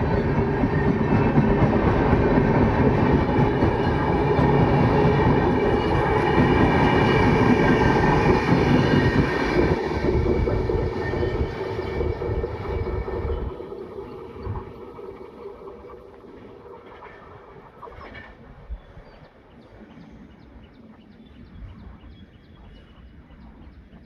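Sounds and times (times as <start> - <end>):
train coaches rolling past: 0.0 - 20.6.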